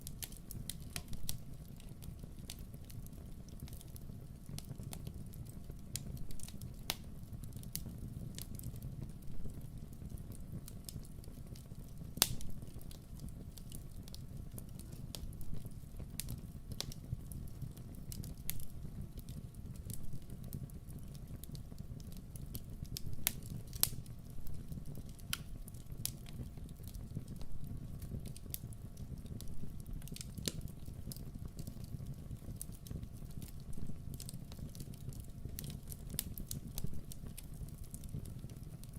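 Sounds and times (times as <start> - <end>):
campfire burning: 0.0 - 38.9
wood crackling and popping: 0.0 - 38.9.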